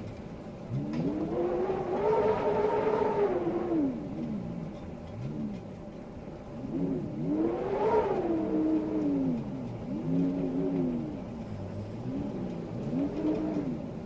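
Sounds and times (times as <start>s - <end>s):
wind howling: 0.6s - 14.0s.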